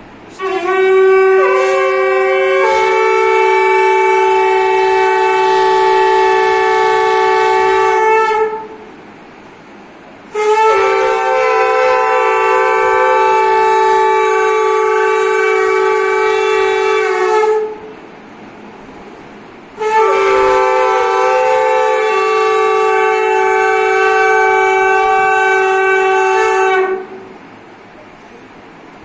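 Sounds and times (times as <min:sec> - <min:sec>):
conch shells blowing long blasts: 0:00.3 - 0:08.8, 0:10.3 - 0:18.0, 0:19.8 - 0:27.4.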